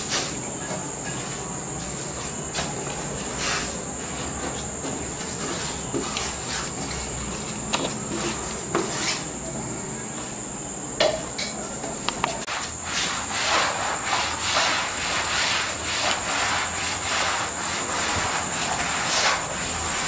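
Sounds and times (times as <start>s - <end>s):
plastic flooring rustling: 0.0s - 9.3s, 12.3s - 20.0s.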